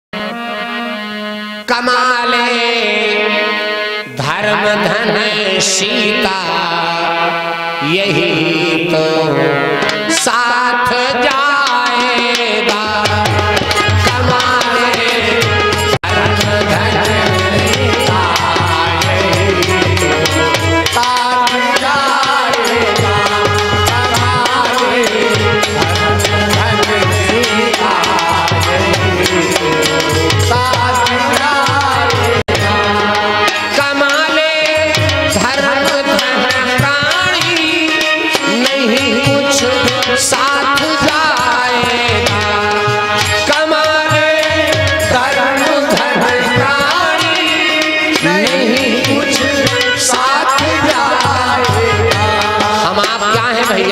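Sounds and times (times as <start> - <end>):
man singing devotional song: 0.1 - 53.9
hand drums beating: 9.8 - 10.5, 11.3 - 53.9
sharp percussion ticks: 9.8 - 53.9.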